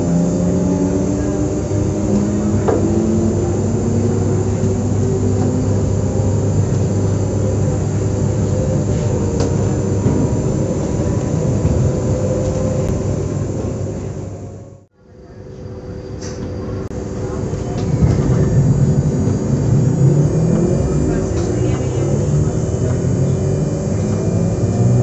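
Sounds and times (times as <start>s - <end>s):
train equipment humming: 0.0s - 25.0s.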